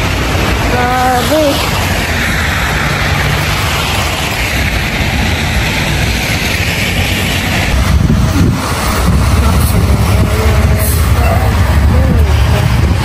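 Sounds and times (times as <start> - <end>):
heavy diesel truck engine: 0.0 - 13.0
rumble of passing cars: 0.0 - 13.0.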